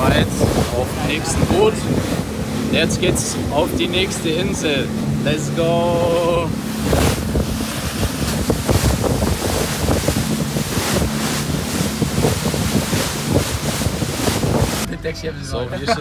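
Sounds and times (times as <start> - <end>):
wind buffeting microphone: 0.0 - 14.9
boat engines humming: 0.0 - 16.0
water rushing: 0.0 - 16.0.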